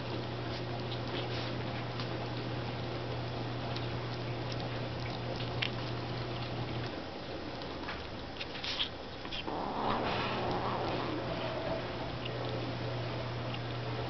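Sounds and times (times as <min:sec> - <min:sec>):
kittens chewing and smacking: 0:00.0 - 0:14.0
steady low hum: 0:00.0 - 0:14.0.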